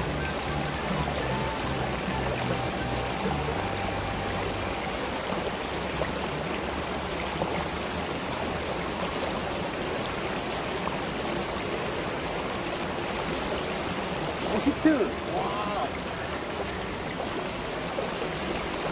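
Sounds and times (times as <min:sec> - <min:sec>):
background music: 0:00.0 - 0:08.6, 0:10.2 - 0:18.8
river water rushing over rocks: 0:00.0 - 0:18.9.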